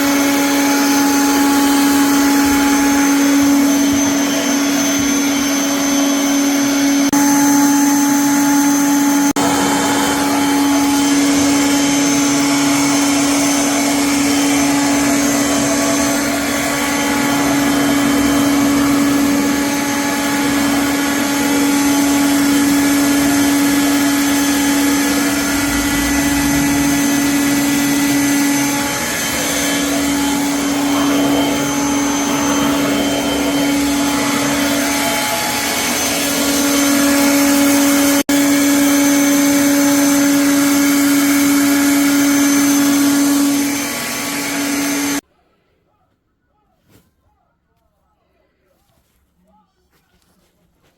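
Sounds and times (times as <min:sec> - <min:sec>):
vacuum cleaner running: 0:00.0 - 0:45.2.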